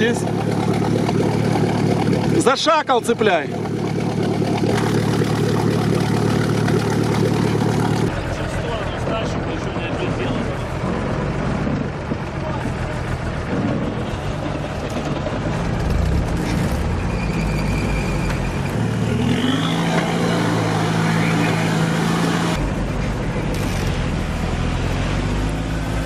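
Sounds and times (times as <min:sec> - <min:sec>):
vehicle engines running under load: 0:00.0 - 0:26.0.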